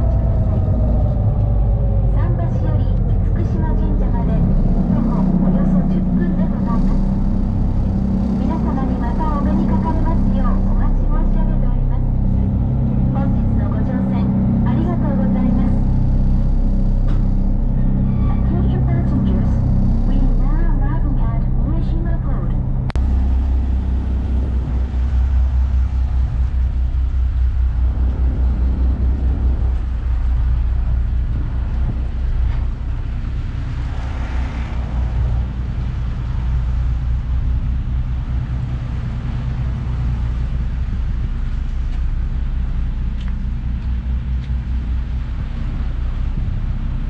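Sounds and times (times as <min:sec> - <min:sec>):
ferry engine idling: 0:00.0 - 0:47.0.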